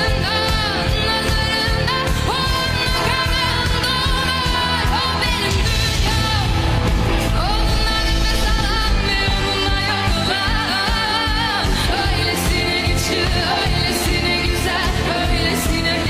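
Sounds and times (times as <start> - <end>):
pop song with vocals: 0.0 - 16.0.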